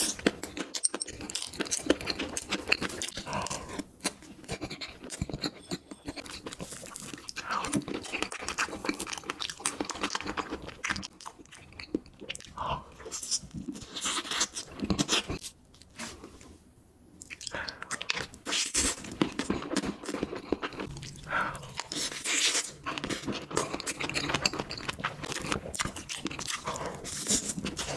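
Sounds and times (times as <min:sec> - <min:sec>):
chewing and biting food: 0:00.0 - 0:15.5, 0:17.2 - 0:27.9.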